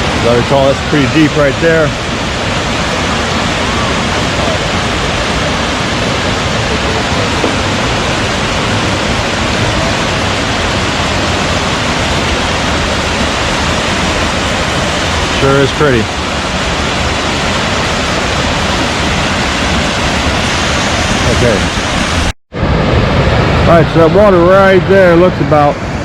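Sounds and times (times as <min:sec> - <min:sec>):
waterfall pouring: 0:00.0 - 0:25.7.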